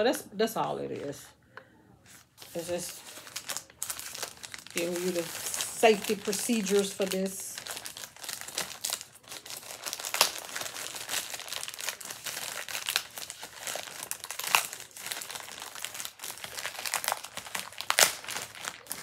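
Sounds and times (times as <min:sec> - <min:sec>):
plastic bag crinkling: 0:02.1 - 0:19.0.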